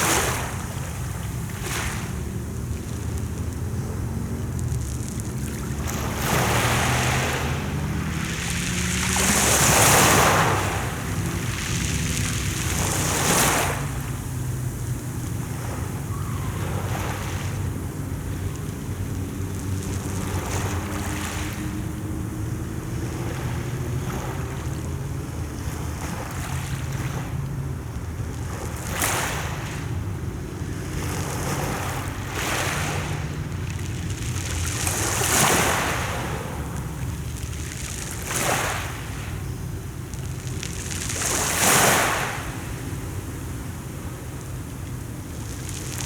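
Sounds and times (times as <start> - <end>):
sea waves breaking: 0.0 - 46.0
wind rumble on microphone: 0.0 - 46.0.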